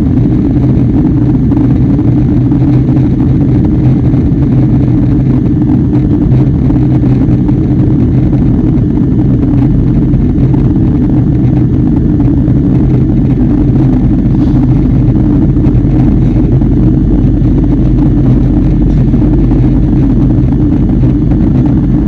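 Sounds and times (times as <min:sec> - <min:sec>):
jet engine cabin drone: 0:00.0 - 0:22.0.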